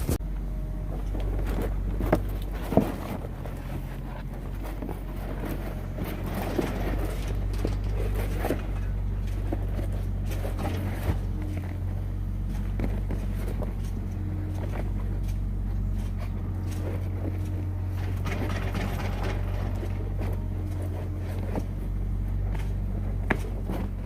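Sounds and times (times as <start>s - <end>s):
machinery engine droning: 0.0s - 24.0s
knocks and clatter: 0.9s - 24.0s.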